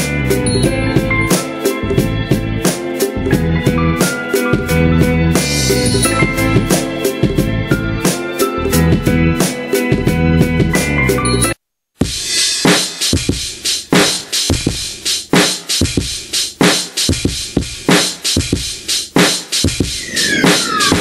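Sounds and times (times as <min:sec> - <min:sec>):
hip-hop drum loop: 0:00.0 - 0:11.0, 0:12.0 - 0:21.0.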